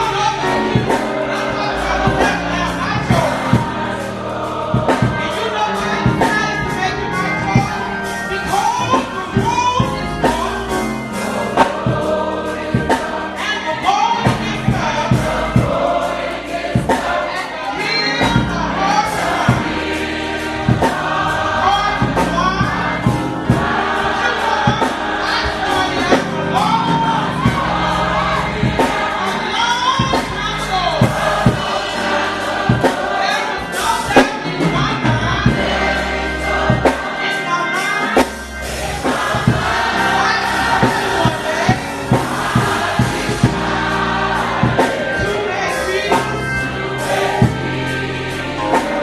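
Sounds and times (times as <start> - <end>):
bass: 0.0 - 49.0
gospel choir singing: 0.0 - 49.0
drum strokes: 0.2 - 37.3, 38.1 - 49.0.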